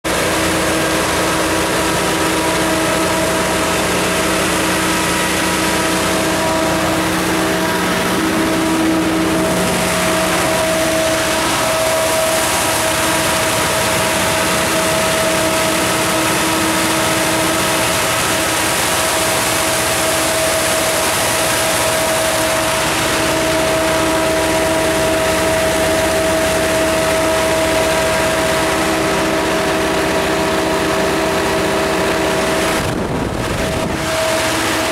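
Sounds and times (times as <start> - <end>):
diesel generator running: 0.0 - 34.9.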